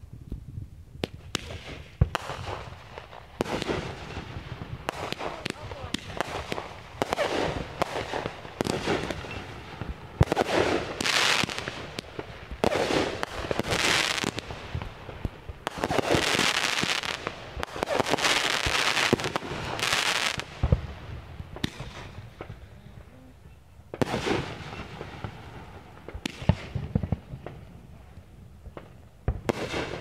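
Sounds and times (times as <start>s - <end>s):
fireworks pops and bangs: 0.2s - 30.0s
fireworks crackling hiss: 1.0s - 30.0s.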